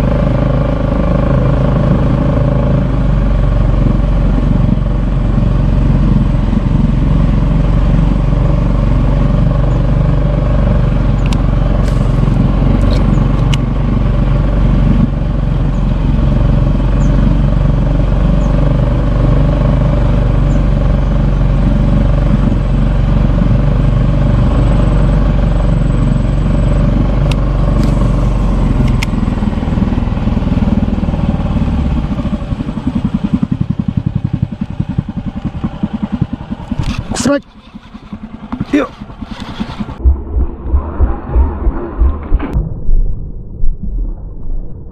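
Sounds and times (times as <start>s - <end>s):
small single-cylinder engine running: 0.0s - 40.0s.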